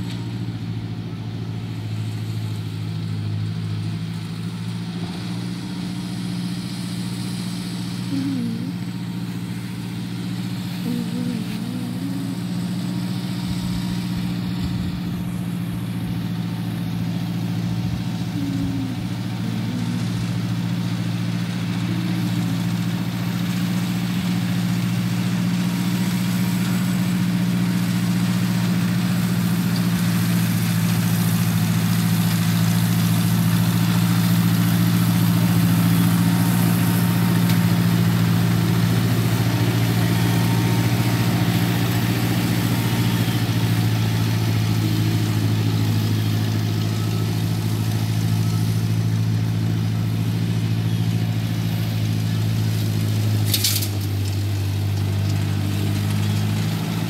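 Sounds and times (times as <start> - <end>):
flail mower cutting grass: 0.0 - 57.0
tractor engine running: 0.0 - 57.0.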